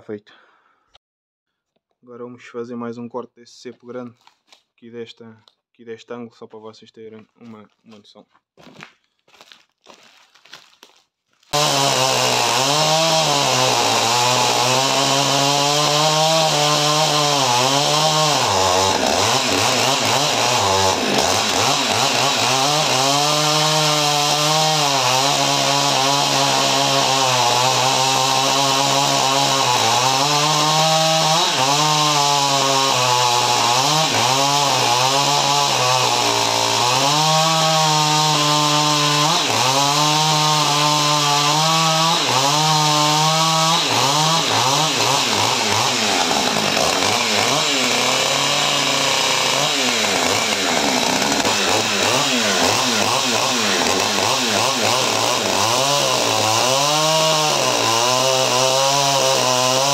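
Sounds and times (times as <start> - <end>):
chainsaw cutting through log: 8.6 - 59.9.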